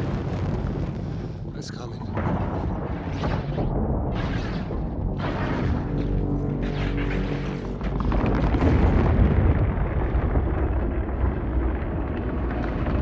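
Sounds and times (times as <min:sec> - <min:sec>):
explosions: 0:00.0 - 0:13.0
heavy low rumble: 0:00.0 - 0:13.0.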